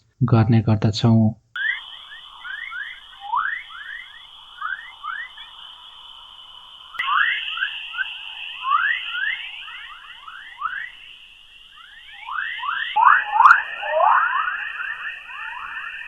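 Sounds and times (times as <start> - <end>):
steady high hiss: 1.0 - 16.0
quick rising electronic chirps: 1.6 - 16.0.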